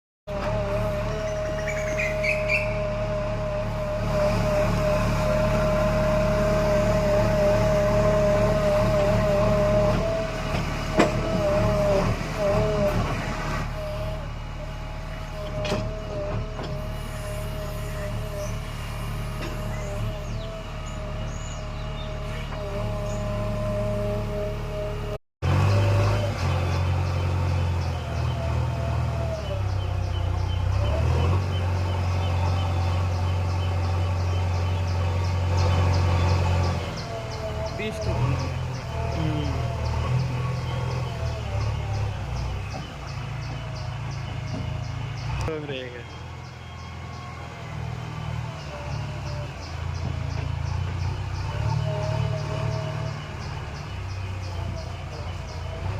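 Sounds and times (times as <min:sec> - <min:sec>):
diesel engine running: 0:00.3 - 0:55.9.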